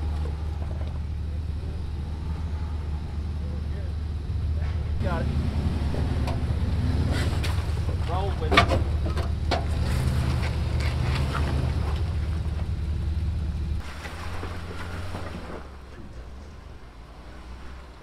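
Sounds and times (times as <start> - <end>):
vehicle engine low drone: 0.0 - 18.0.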